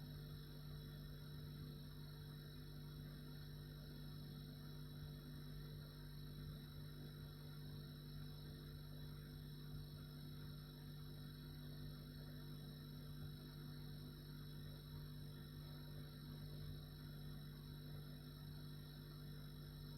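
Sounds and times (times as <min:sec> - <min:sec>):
refrigerator hum: 0:00.0 - 0:19.9.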